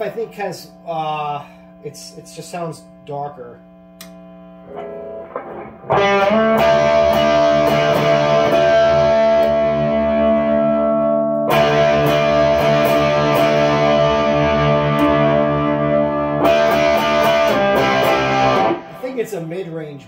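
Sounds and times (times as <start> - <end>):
distorted electric guitar chord: 0.0 - 20.0.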